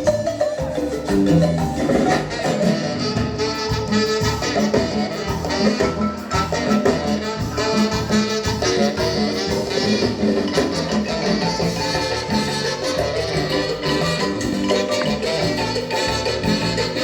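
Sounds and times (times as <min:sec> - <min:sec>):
marimba band playing: 0:00.0 - 0:17.0.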